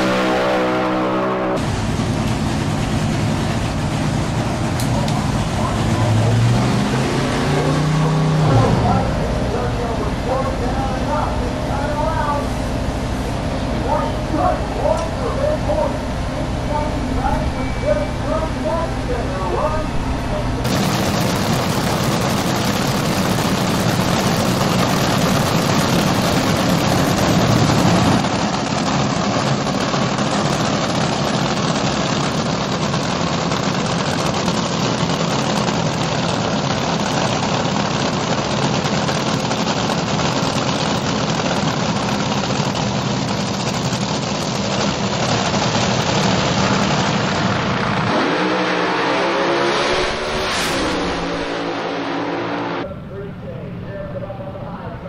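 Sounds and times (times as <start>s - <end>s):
dragster engine roaring: 0.0s - 55.0s.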